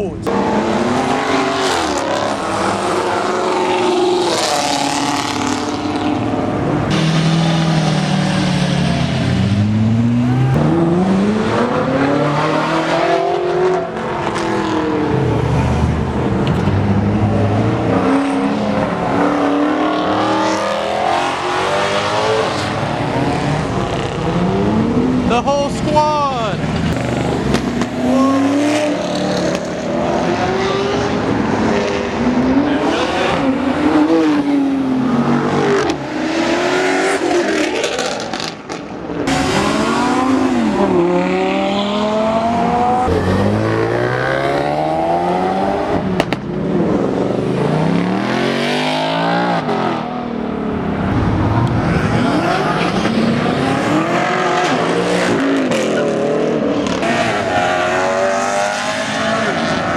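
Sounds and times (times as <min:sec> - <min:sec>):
cars accelerating hard: 0:00.0 - 0:59.9.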